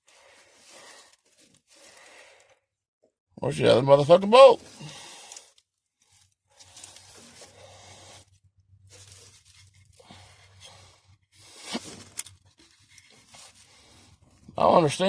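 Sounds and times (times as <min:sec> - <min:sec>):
hands and tools rustling and scraping: 0:00.0 - 0:02.7, 0:03.6 - 0:15.0.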